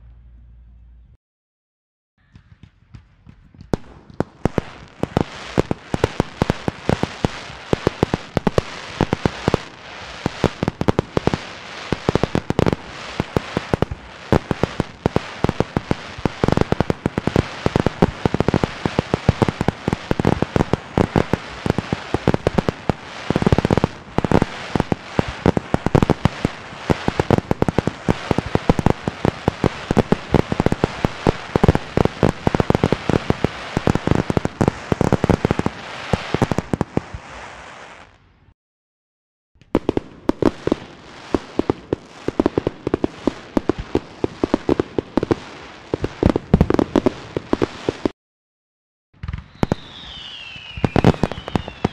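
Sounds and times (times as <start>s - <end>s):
fireworks popping and cracking: 2.2s - 38.2s, 39.6s - 48.2s, 49.2s - 51.9s
deep firework bursts: 2.2s - 38.5s, 39.7s - 48.1s, 49.2s - 51.9s.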